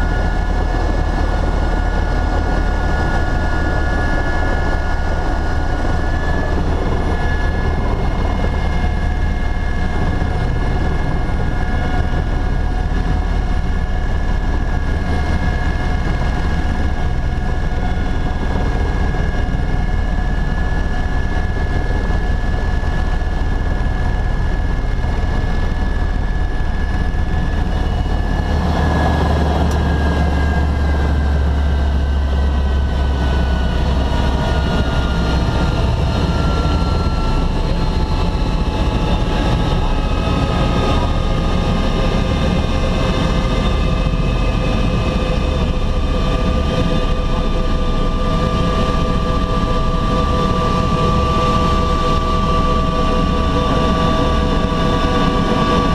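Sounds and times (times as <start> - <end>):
helicopter engine and rotor rumble: 0.0 - 55.9
high steady whine: 0.0 - 55.9.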